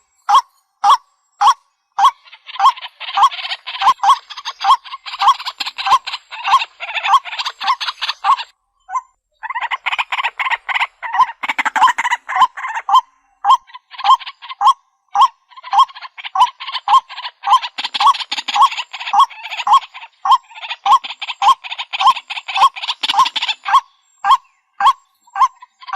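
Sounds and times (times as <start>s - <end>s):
bird croaking calls: 0.0s - 25.9s.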